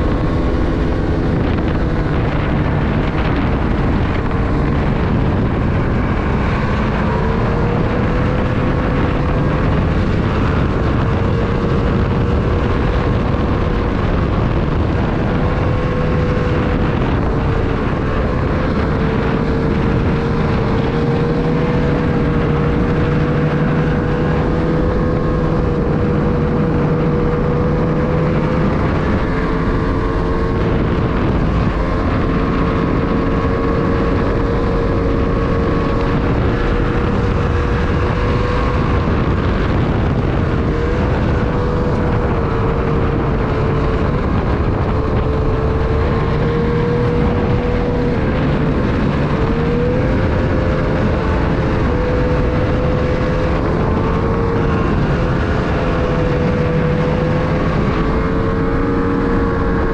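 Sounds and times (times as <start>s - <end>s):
snowmobile engine running: 0.0s - 59.9s
track and wind noise: 0.0s - 59.9s.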